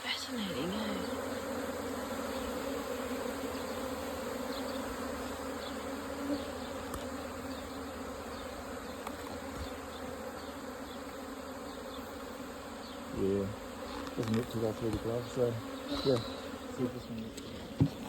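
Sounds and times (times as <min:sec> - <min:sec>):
swarm of bees buzzing: 0:00.0 - 0:18.0.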